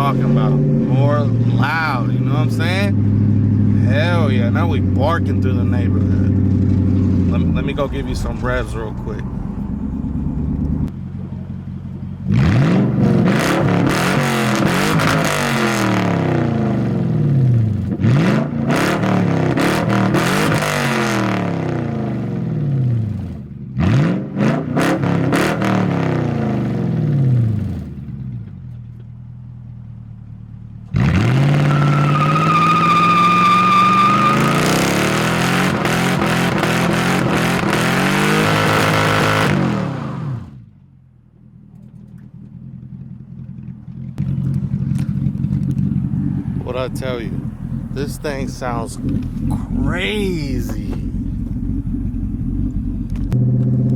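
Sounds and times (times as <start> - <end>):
car engine revving: 0.0 - 27.9, 30.9 - 40.7, 44.2 - 53.9.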